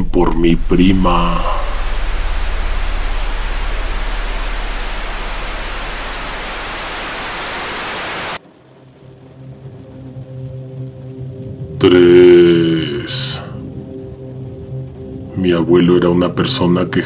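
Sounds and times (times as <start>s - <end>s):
low pulsing hum: 0.0s - 16.5s
ambient music drone: 0.0s - 17.0s
steady hiss: 0.0s - 17.0s.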